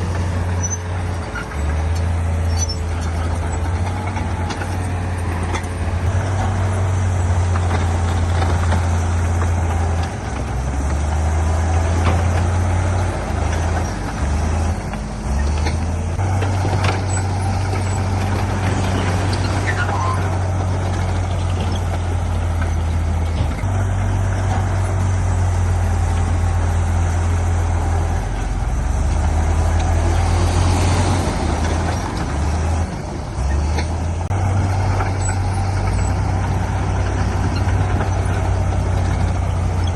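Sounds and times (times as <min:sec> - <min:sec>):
earthmoving machinery engine drone: 0:00.0 - 0:39.9.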